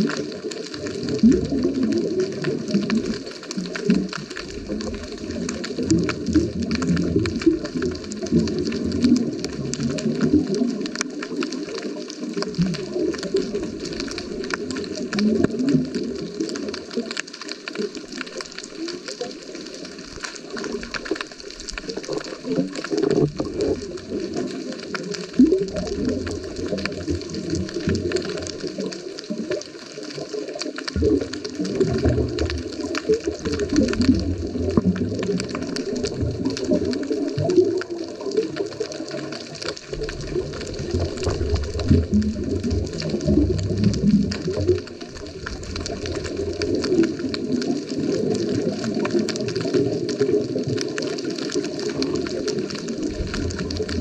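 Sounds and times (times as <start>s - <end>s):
faint clicks: 0.0s - 54.0s
low rumbling bubbles: 0.0s - 54.0s
underwater bubbling: 0.0s - 54.0s.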